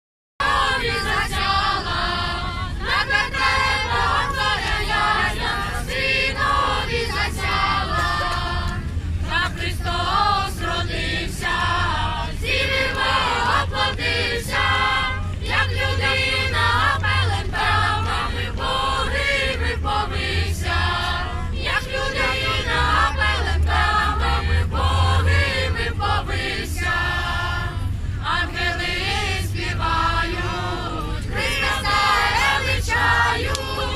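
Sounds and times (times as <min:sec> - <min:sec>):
choir singing a carol unaccompanied: 0:00.4 - 0:33.9.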